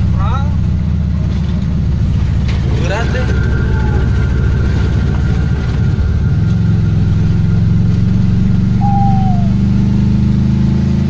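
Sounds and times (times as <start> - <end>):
pickup engine running inside cab: 0.0 - 11.0.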